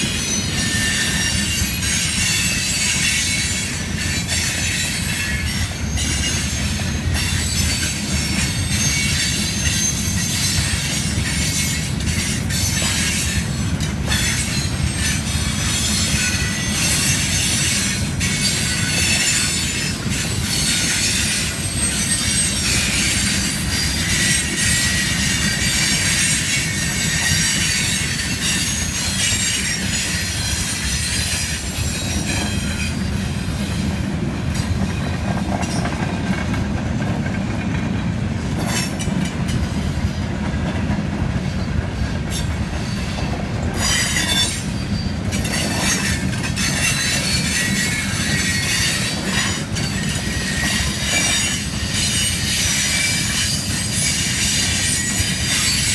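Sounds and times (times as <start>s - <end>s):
high steel wheel squeal: 0.0s - 36.0s, 41.4s - 55.9s
train wheels rumbling on rail: 0.0s - 55.9s.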